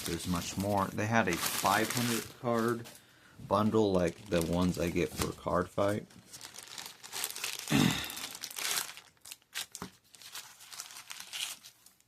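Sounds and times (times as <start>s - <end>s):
plastic packaging crinkling: 0.0s - 3.0s, 3.6s - 12.0s.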